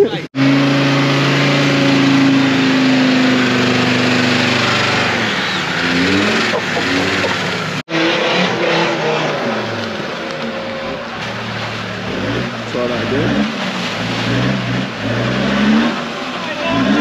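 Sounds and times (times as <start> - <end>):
off-road engine revving: 0.0 - 17.0
off-road engine under load: 0.0 - 17.0.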